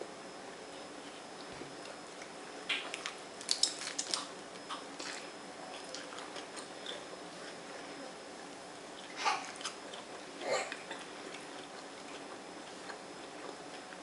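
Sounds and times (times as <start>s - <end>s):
lettuce crunching while chewing: 1.0s - 7.7s, 8.7s - 14.0s.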